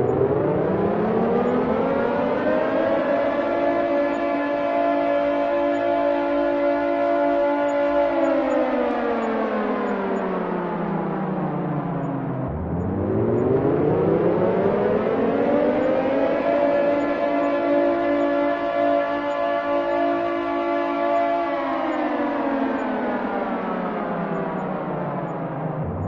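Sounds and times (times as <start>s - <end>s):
air raid siren wailing: 0.0s - 26.0s.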